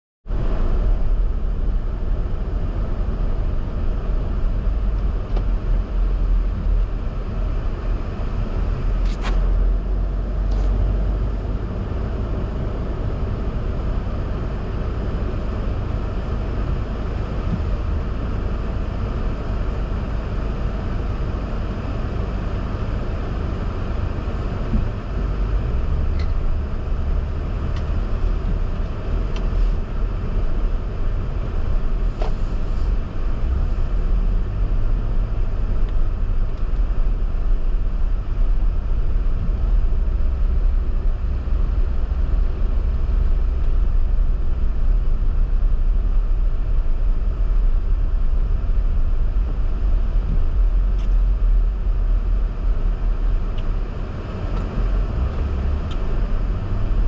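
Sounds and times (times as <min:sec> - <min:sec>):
car engine and road noise: 0:00.2 - 0:57.0.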